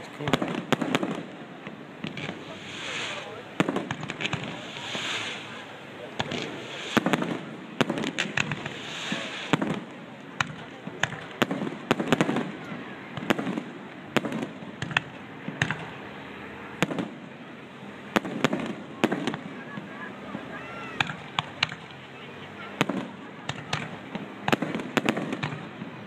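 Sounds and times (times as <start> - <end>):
fireworks bangs and cracks: 0.0 - 16.0, 16.8 - 17.4, 18.1 - 26.0.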